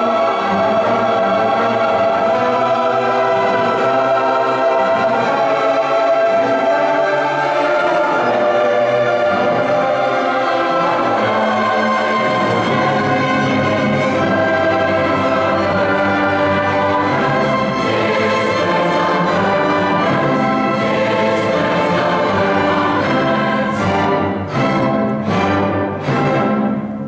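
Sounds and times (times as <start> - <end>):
bowed strings: 0.0 - 27.0
choir singing: 0.0 - 27.0
orchestra playing: 0.0 - 27.0.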